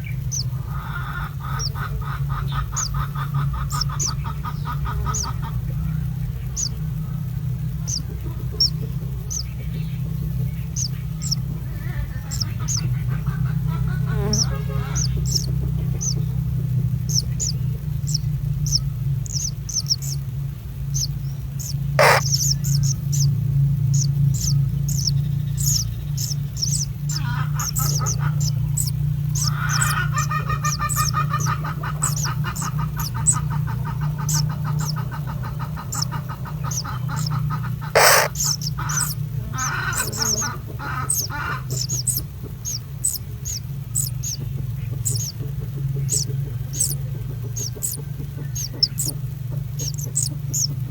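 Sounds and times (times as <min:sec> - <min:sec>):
birds cheeping: 0:00.0 - 0:50.9
lower chattering bird call: 0:00.0 - 0:50.9
steady low hum: 0:00.0 - 0:50.9.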